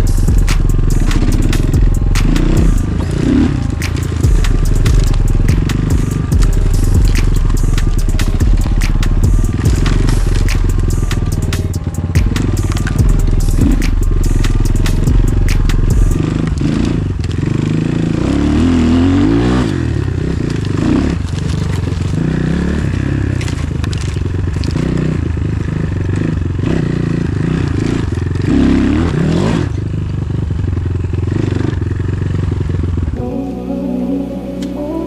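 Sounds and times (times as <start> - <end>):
motorcycle engine revving: 0.0 - 35.0
knocks and clatter over rough ground: 0.3 - 18.2, 18.8 - 33.2.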